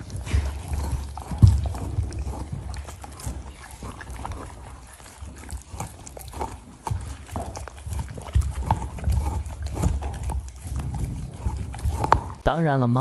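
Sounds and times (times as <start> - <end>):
dogs gnawing and licking treats: 0.0 - 12.5
dull low thumps: 0.0 - 12.6.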